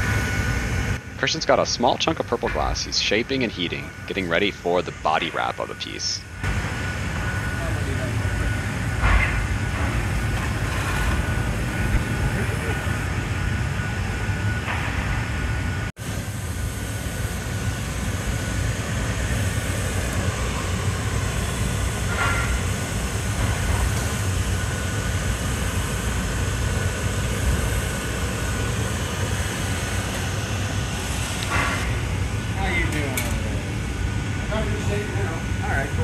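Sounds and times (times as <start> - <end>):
faint steady whine: 0.0 - 36.0
floor fans: 0.0 - 36.0
gas furnace roar: 0.0 - 36.0.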